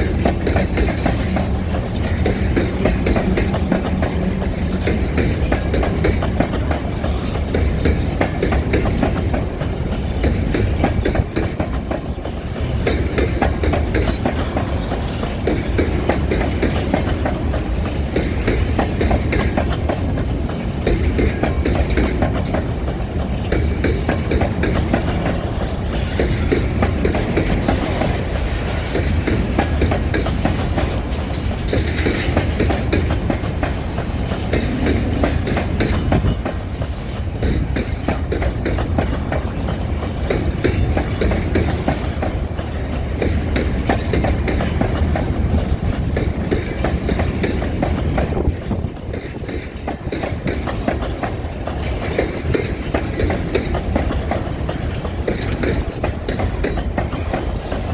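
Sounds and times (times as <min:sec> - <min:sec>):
train wheels clattering: 0:00.0 - 0:57.9.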